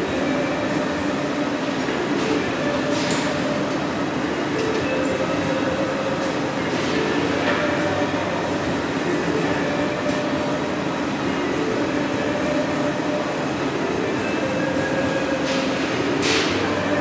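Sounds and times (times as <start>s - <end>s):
exhaust fans running: 0.0s - 17.0s
gas burners roaring: 0.0s - 17.0s.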